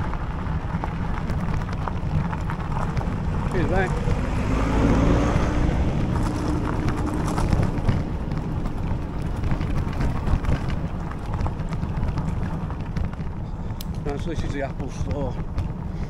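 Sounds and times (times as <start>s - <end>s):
bike tyres crunching on gravel: 0.0s - 16.0s
low hum: 0.0s - 16.0s
wind buffeting microphone: 0.0s - 16.0s.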